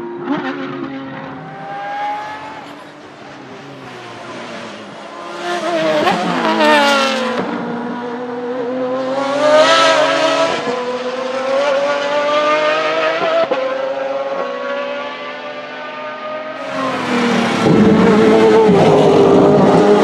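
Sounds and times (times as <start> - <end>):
sports car engine accelerating: 0.0 - 20.0.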